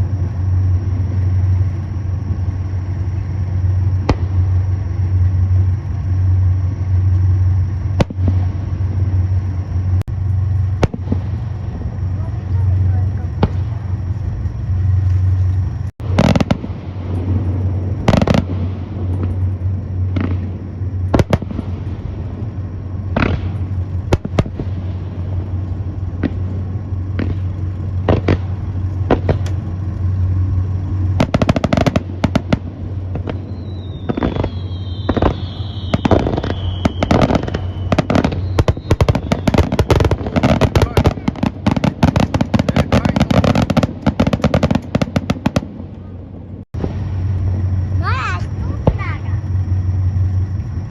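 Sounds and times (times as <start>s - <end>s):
falling firework whistles: 0.0s - 50.9s
fireworks booming and cracking: 0.0s - 50.9s
steady low hum: 0.0s - 50.9s.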